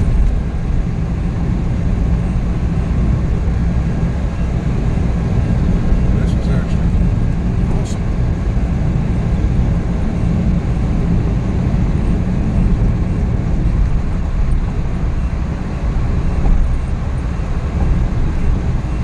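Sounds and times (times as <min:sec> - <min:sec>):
engine droning: 0:00.0 - 0:19.0
road noise: 0:00.0 - 0:19.0.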